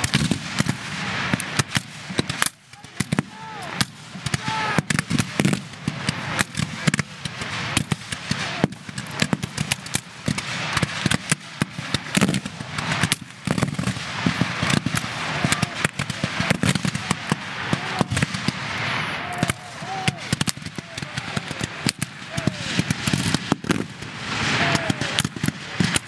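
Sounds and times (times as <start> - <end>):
musket fire: 0.0 - 26.0.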